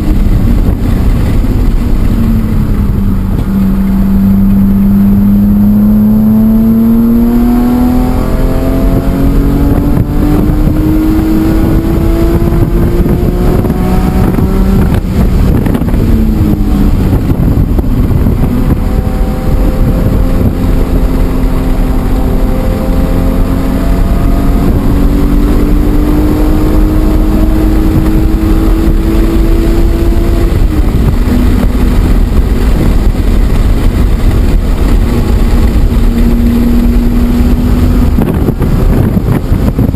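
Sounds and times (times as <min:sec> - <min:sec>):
car engine accelerating hard: 0:00.0 - 0:39.9
road and wind noise: 0:00.0 - 0:39.9.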